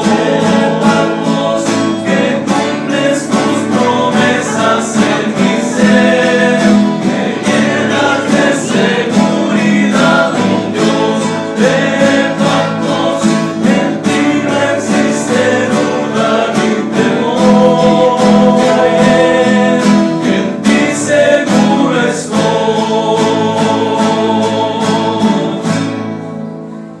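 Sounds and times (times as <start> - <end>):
men singing in harmony: 0.0 - 26.1
strummed guitars: 0.0 - 27.0.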